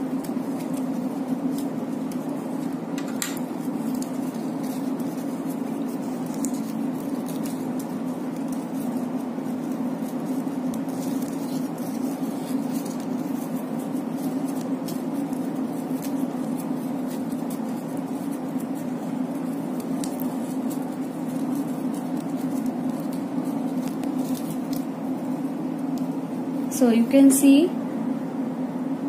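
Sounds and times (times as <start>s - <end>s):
paper rustling: 0.0s - 26.7s
steady low hum: 0.0s - 29.0s.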